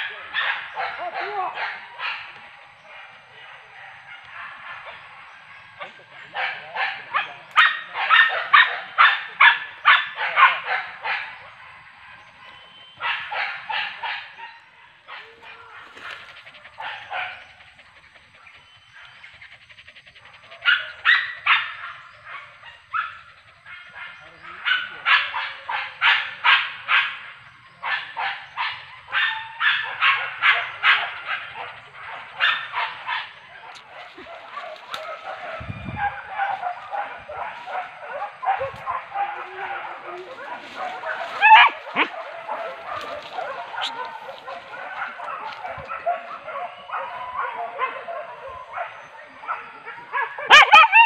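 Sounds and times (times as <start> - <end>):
hunting dogs barking: 0.0 - 51.0.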